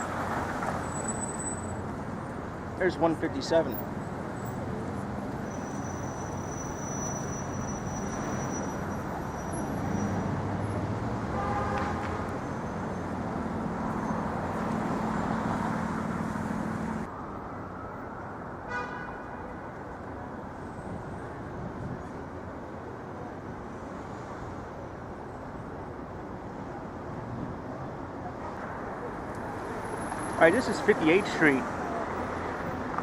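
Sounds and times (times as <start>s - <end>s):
passing vehicles: 0.0s - 33.0s.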